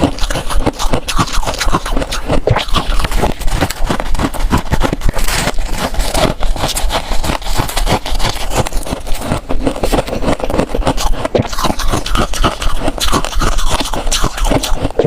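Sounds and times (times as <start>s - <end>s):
frost crunching and scraping: 0.0s - 15.0s.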